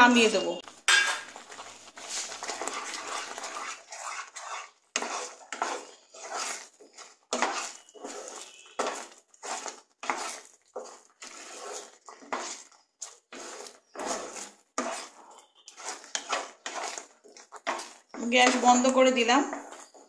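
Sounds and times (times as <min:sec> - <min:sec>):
spatula scraping in pan: 0:00.0 - 0:20.0.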